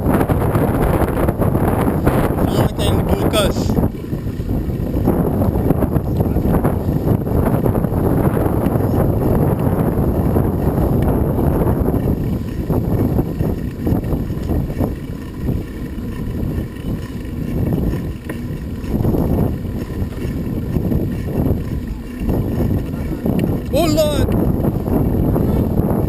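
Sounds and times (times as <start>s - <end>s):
vehicle and road rumble: 0.0s - 26.0s
wind buffeting microphone: 0.0s - 26.0s.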